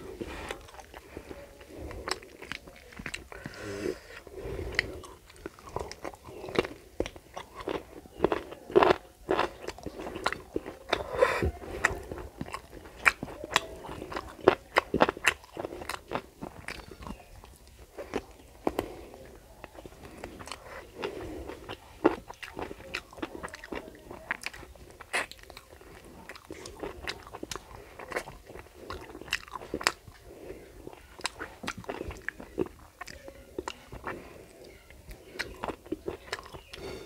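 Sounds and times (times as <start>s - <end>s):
fingers mixing rice on a plate: 0.0s - 37.0s
chewing and mouth smacks: 0.2s - 3.6s, 4.2s - 36.9s.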